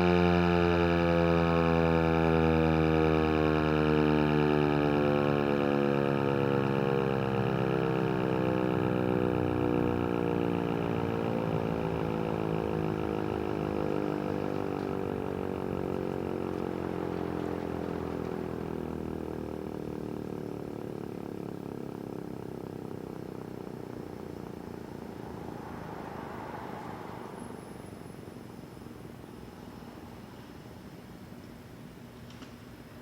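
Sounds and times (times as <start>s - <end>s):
warning siren winding down: 0.0s - 30.2s.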